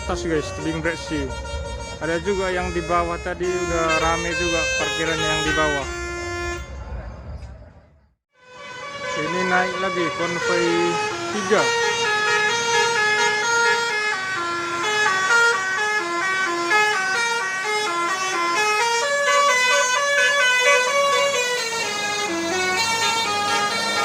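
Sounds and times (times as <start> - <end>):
musical bus horn playing a tune: 0.0 - 6.9, 8.3 - 24.0.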